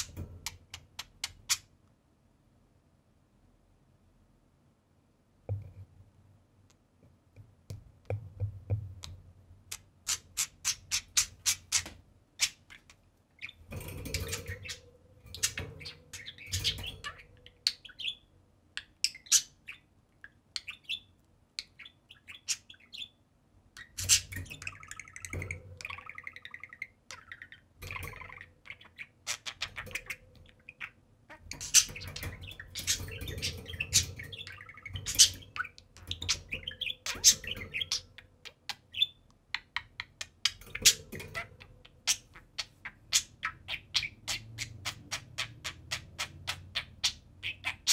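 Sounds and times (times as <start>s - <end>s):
budgerigars chirping and warbling: 0.0s - 1.7s, 9.0s - 23.2s, 23.8s - 47.9s.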